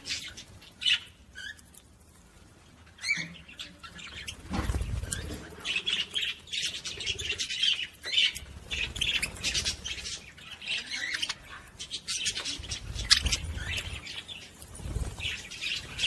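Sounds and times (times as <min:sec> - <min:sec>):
cage birds chirping and squawking: 0:00.0 - 0:16.0.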